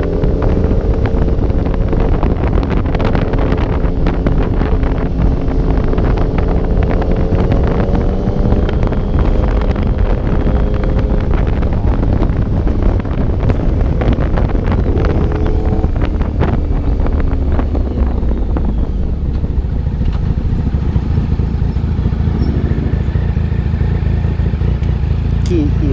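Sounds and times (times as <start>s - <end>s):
motorcycle engine: 0.0s - 25.9s
wind rushing over microphone: 0.0s - 25.9s.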